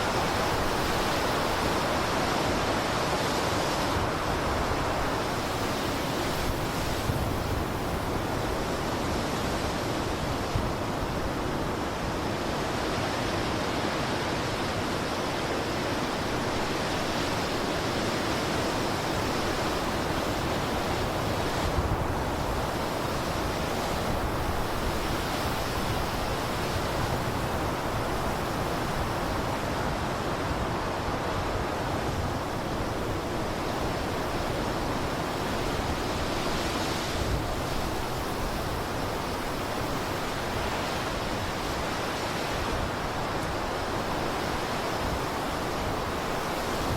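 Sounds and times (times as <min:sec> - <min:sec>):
blizzard wind rushing: 0:00.0 - 0:46.9.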